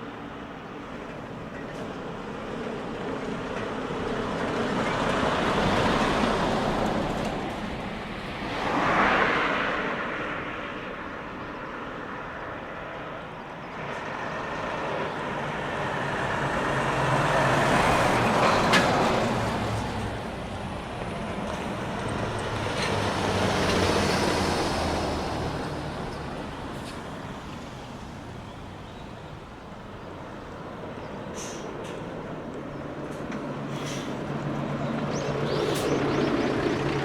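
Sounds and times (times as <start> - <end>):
trucks driving past: 0.0 - 37.0.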